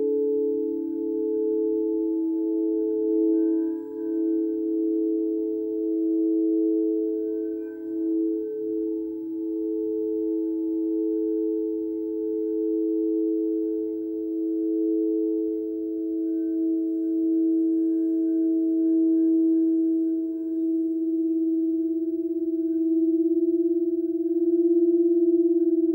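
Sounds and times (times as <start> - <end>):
singing bowls ringing: 0.0 - 25.9.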